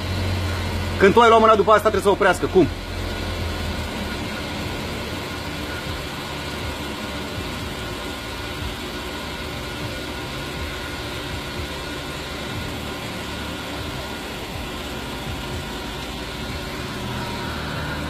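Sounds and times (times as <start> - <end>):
fuel pump mechanical hum: 0.0 - 18.0.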